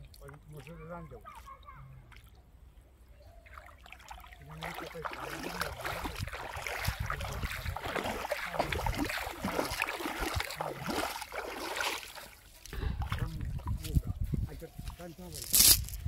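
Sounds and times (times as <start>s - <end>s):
water sloshing and splashing: 0.0s - 2.7s, 3.3s - 16.0s.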